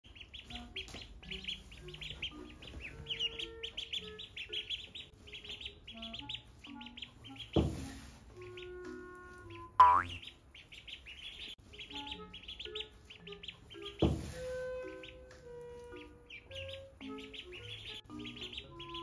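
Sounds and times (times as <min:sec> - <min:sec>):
ducklings peeping: 0:00.0 - 0:19.0
soft background music: 0:00.1 - 0:19.0.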